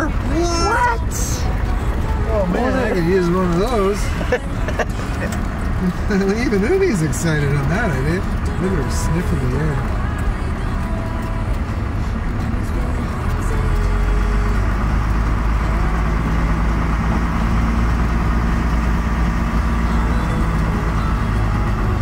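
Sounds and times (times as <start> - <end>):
engine drone inside vehicle: 0.0 - 22.0
tyres rumbling on gravel: 0.0 - 22.0.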